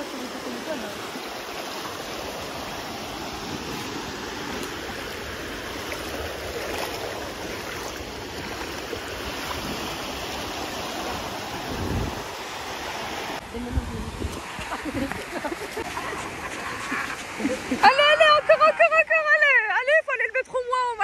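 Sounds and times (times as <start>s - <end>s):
sea surf washing on beach: 0.0s - 19.6s.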